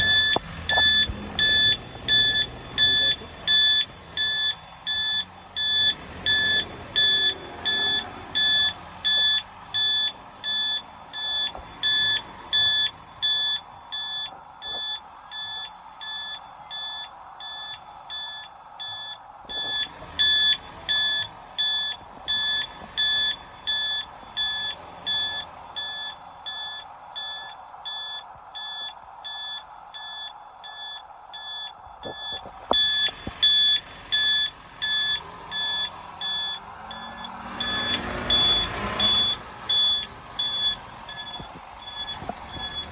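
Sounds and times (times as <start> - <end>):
crossing signal beeping: 0.0 - 42.9
faint street noise: 0.0 - 42.9.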